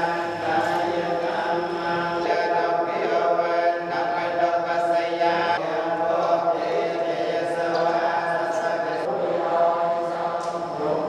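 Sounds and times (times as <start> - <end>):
crowd chanting prayers in unison: 0.0 - 11.0.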